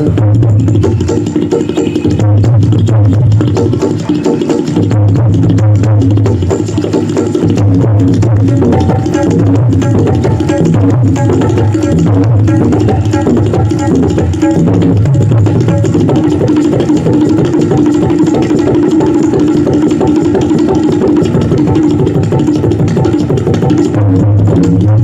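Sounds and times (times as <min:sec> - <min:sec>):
ringing treble drum tone: 0:00.0 - 0:25.0
tabla fast strokes: 0:00.0 - 0:25.0.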